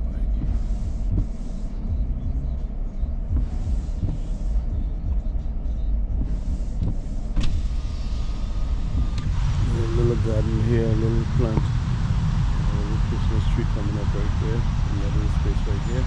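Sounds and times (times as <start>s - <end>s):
car low rumble: 0.0s - 16.0s
windshield wipers swishing: 0.0s - 16.0s.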